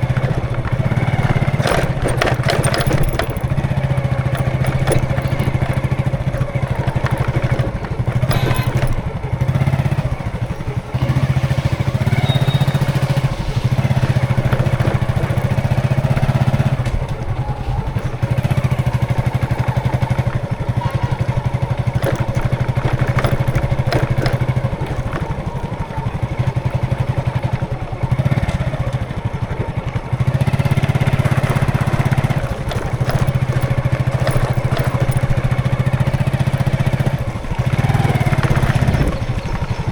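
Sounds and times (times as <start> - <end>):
road noise: 0.0 - 39.9
vehicle engine running close by: 0.0 - 39.9.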